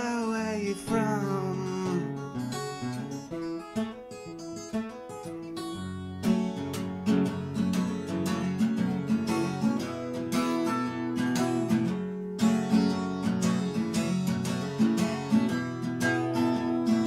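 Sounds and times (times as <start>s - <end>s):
fingerpicked acoustic guitar: 0.0s - 17.0s.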